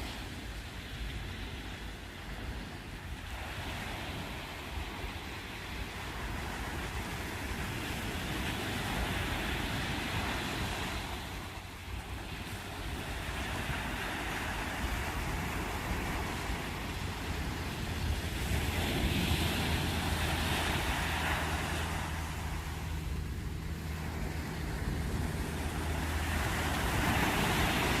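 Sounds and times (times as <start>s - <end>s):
steady low hum: 0.0s - 28.0s
surf washing onto beach: 0.0s - 28.0s.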